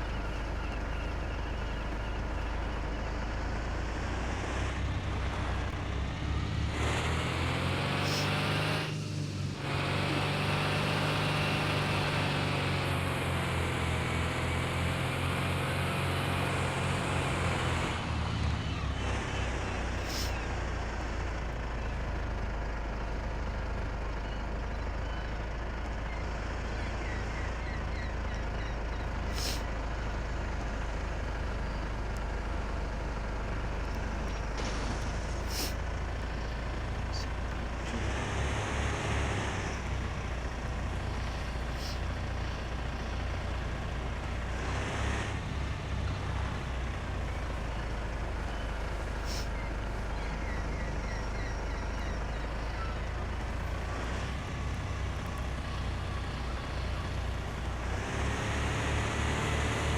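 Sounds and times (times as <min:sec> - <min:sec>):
truck engine under load: 0:00.0 - 0:59.9.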